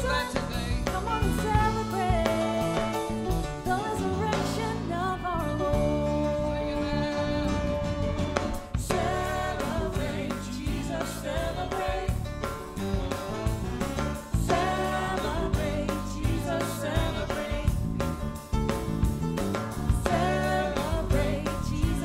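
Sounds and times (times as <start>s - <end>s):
band with bass and drums: 0.0s - 22.0s.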